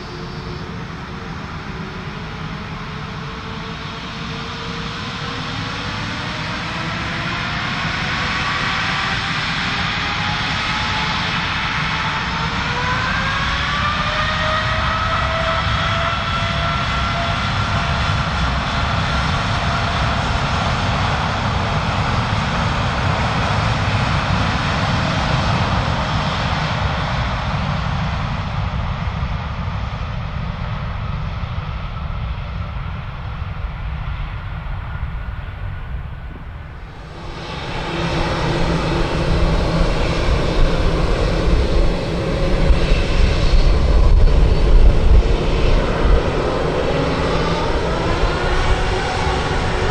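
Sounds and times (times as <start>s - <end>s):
jet engine roar with fan whine: 0.0s - 49.9s
jet engine spooling up rumble: 0.0s - 49.9s.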